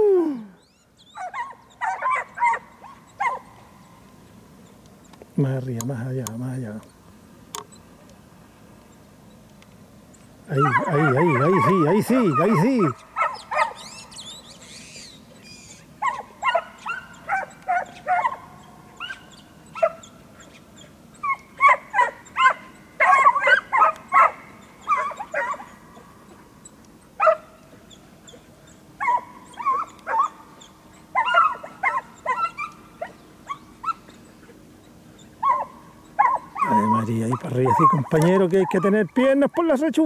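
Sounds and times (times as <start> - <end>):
dogs barking and yelping: 0.0 - 4.1, 10.5 - 39.4.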